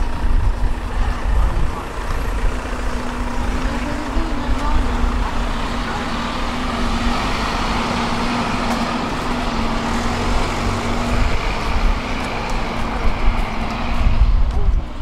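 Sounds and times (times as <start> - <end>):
bus engine hum: 0.0 - 15.0
street traffic: 0.0 - 15.0.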